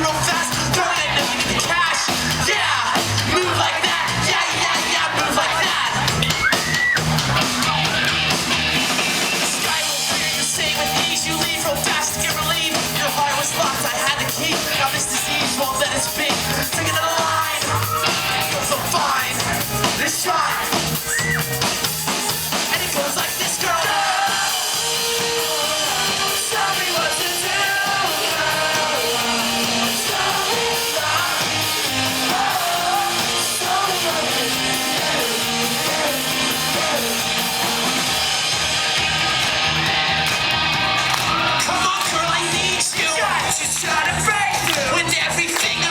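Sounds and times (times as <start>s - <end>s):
live pop-rock band playing: 0.0s - 45.9s.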